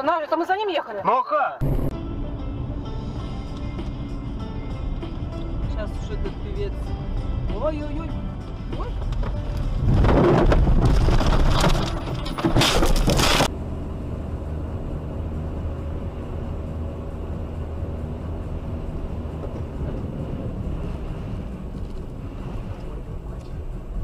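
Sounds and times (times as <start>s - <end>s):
car road and engine rumble: 1.6s - 24.0s.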